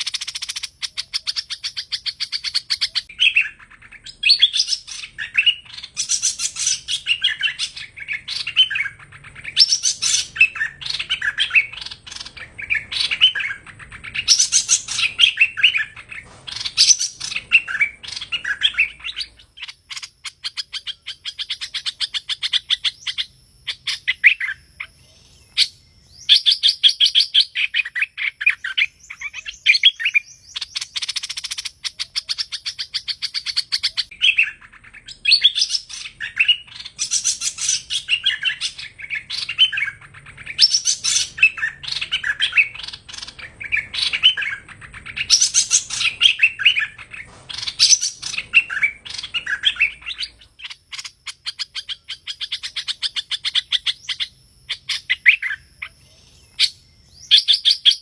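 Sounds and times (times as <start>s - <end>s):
bird rattling trills and chatter: 0.0s - 23.2s, 28.4s - 54.2s
bird chirping song: 0.0s - 58.0s.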